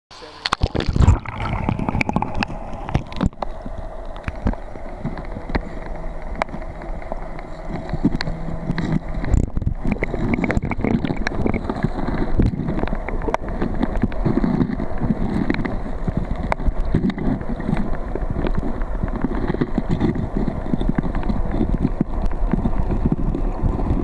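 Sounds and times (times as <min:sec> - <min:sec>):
underwater stream rushing: 0:00.2 - 0:24.0.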